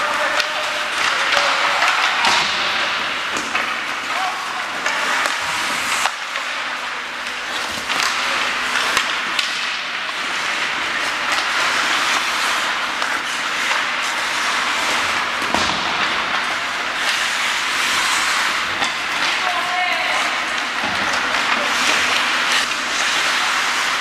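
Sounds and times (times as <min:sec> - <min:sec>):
hockey sticks and puck clacking: 0:00.0 - 0:24.0
skates scraping on ice: 0:00.0 - 0:24.0.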